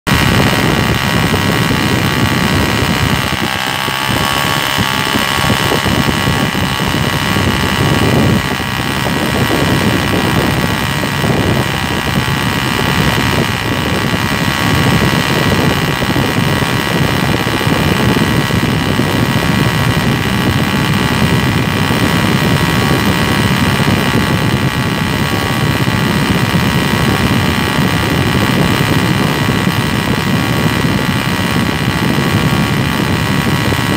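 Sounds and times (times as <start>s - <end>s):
model nitro engine buzzing: 0.0s - 33.9s.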